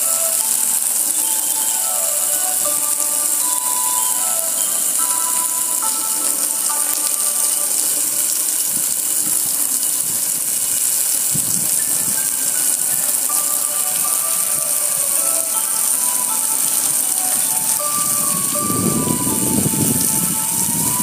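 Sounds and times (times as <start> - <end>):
water jets spraying: 0.0 - 21.0.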